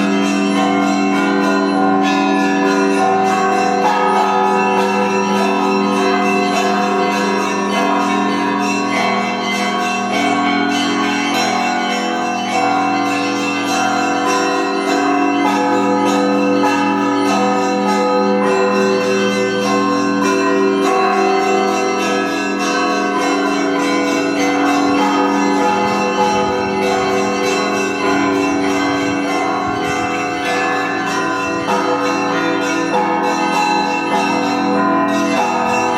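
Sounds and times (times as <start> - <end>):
church bells ringing a peal: 0.0 - 35.9.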